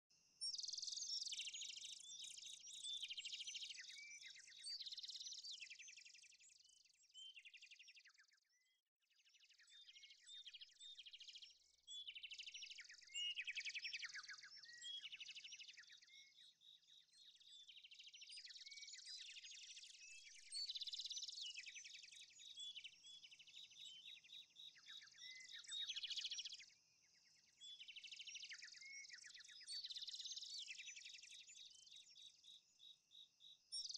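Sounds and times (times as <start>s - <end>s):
faint chorus of birds chirping: 0.0s - 33.9s.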